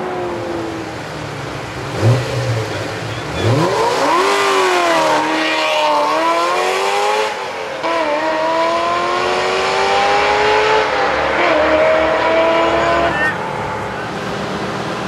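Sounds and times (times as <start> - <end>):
sports car engines accelerating: 0.0 - 15.0.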